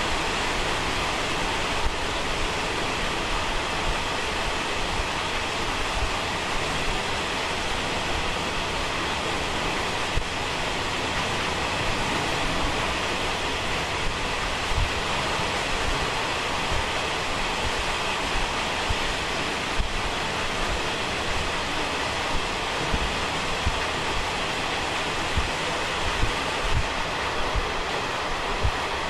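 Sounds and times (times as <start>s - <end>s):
train carriage rushing in tunnel: 0.0s - 29.0s.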